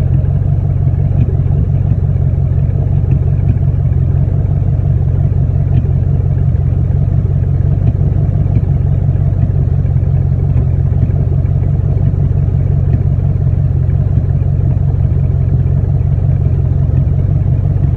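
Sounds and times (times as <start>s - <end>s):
car engine idling: 0.0s - 17.9s
faint sharp engine ticks: 0.0s - 17.9s.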